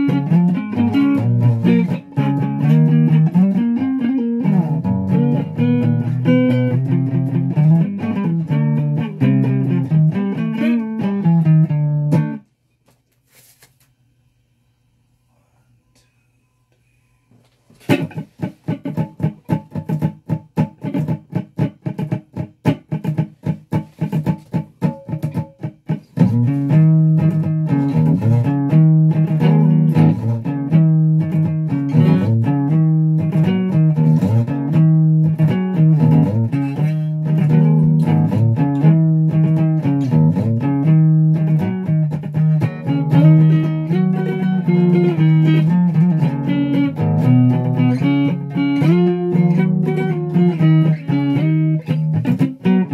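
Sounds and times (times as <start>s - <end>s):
electric guitar playing: 0.0s - 12.4s, 17.8s - 52.9s.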